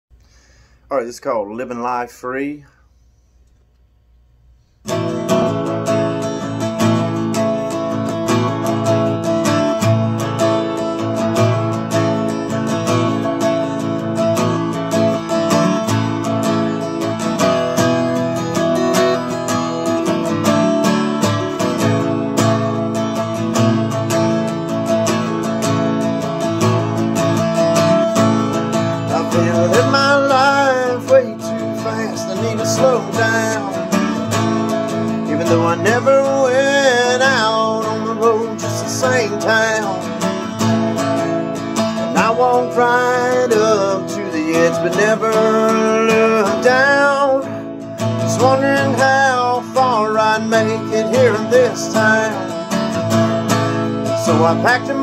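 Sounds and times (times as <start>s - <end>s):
acoustic guitar strumming: 4.6s - 55.0s.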